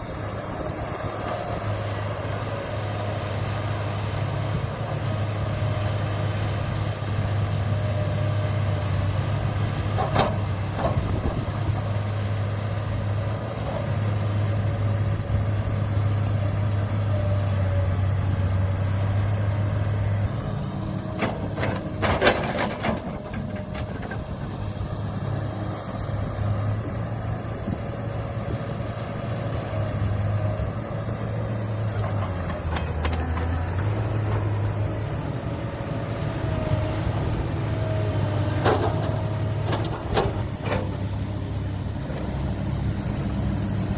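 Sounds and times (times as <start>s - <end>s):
diesel earthmoving machinery running: 0.0s - 43.9s.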